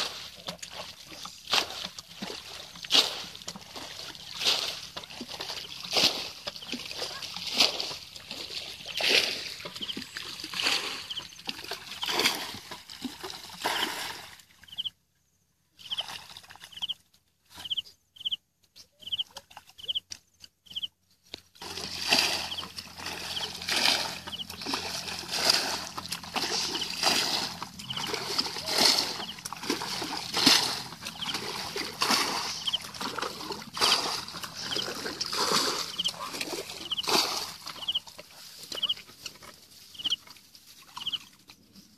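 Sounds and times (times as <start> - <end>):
muddy water splashing: 0.0 - 14.9, 15.8 - 41.9.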